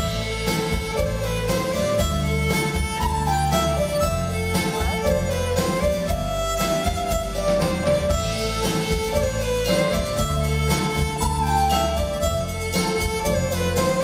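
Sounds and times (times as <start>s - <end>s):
bass guitar: 0.0s - 14.0s
drums: 0.0s - 14.0s
electric violin melody: 0.0s - 14.0s.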